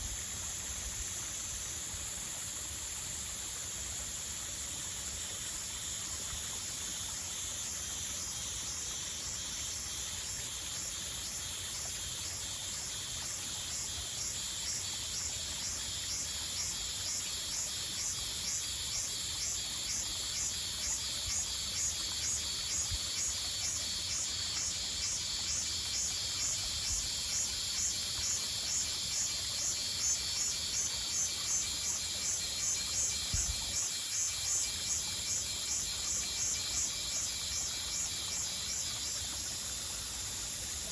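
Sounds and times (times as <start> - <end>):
insects high-pitched buzz: 0.0 - 40.9
insects rhythmic chirping: 0.0 - 40.9.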